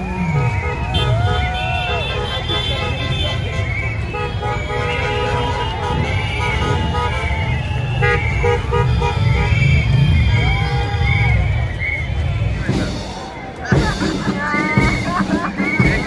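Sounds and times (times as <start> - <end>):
crowd chatter: 0.0 - 16.0
parade band music: 0.0 - 16.0.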